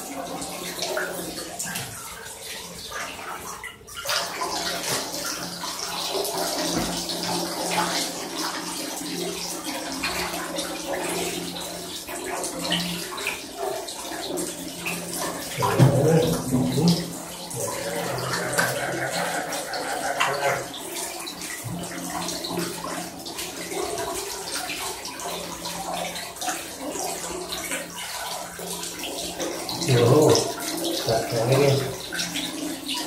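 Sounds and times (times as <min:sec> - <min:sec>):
bathwater splashing and sloshing: 0:00.0 - 0:33.0.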